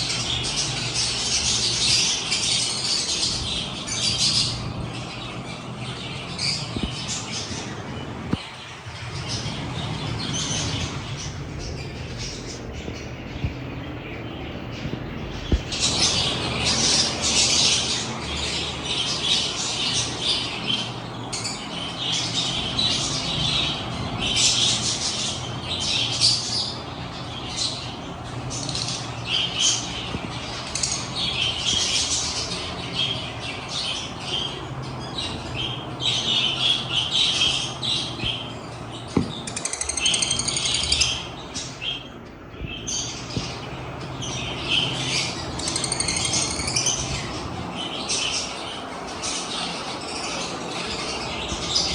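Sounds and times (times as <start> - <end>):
lovebirds chattering and squawking: 0.0 - 51.9.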